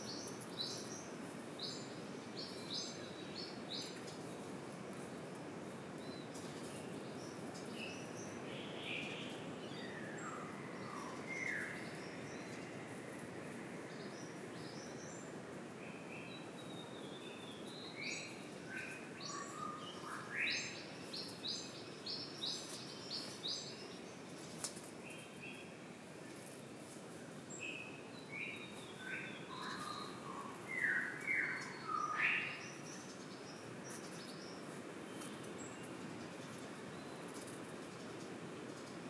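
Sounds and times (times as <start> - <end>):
forest birds calling: 0.0 - 4.5, 5.9 - 39.0
steady background hiss: 0.0 - 39.0.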